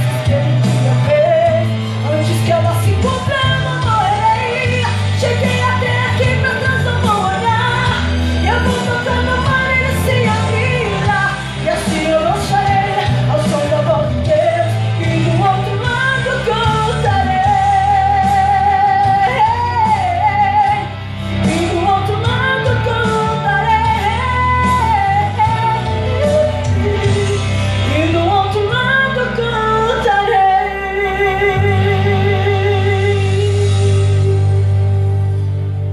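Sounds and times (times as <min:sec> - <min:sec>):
woman singing gospel song: 0:00.0 - 0:34.6
instrumental backing: 0:00.0 - 0:35.9.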